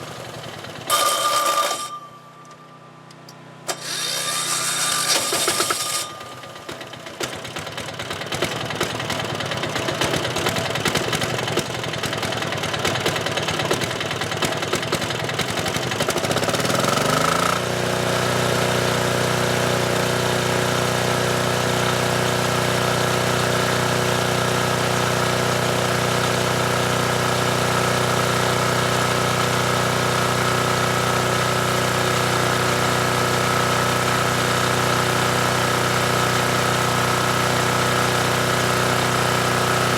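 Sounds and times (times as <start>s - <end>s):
diesel generator engine running: 5.8s - 39.9s.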